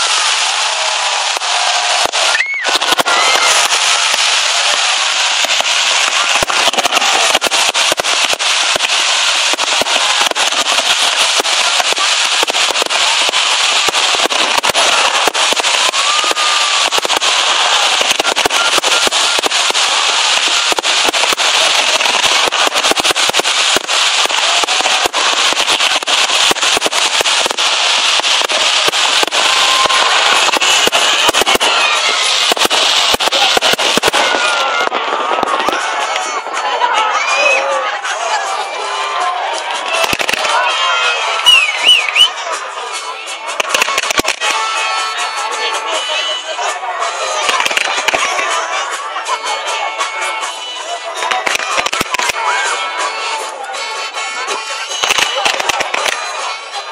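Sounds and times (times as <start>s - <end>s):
fireworks crackling: 0.0s - 56.9s.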